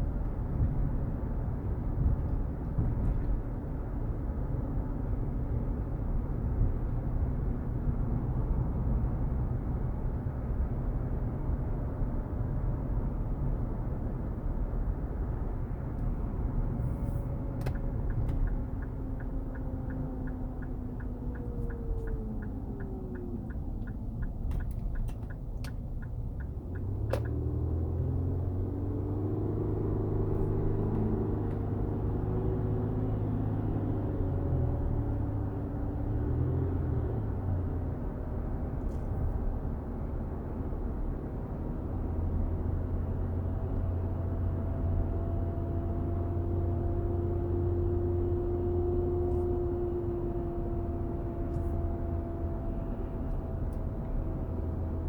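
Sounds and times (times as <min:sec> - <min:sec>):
car cabin droning hum: 0:10.6 - 0:55.0.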